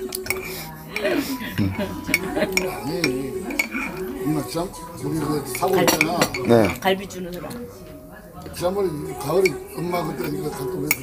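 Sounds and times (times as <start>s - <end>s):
background voices: 0.0s - 11.0s.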